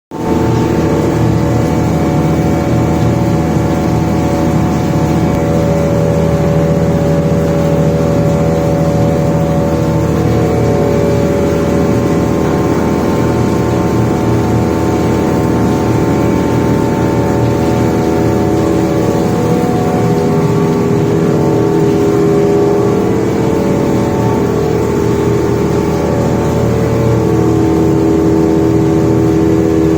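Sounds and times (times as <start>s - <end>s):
wire saw machine humming: 0.1s - 29.9s.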